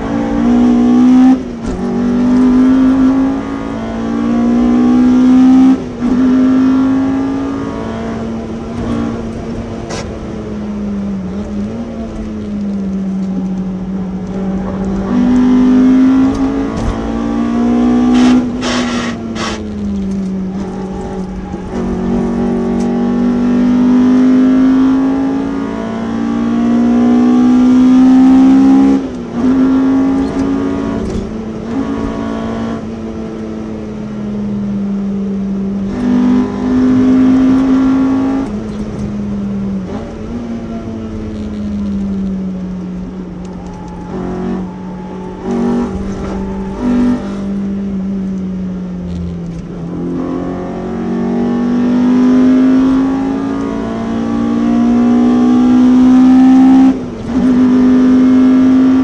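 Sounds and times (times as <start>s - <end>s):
car engine accelerating through gears: 0.0s - 59.0s.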